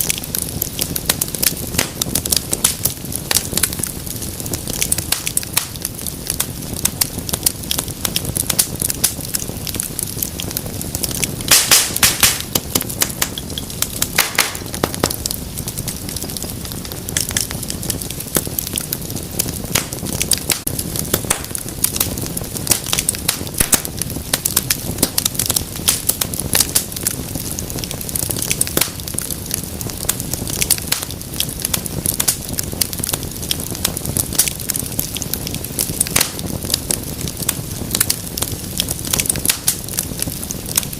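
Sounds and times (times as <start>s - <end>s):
low rumble of flames: 0.0s - 40.9s
wood fire crackling and popping: 0.0s - 40.9s.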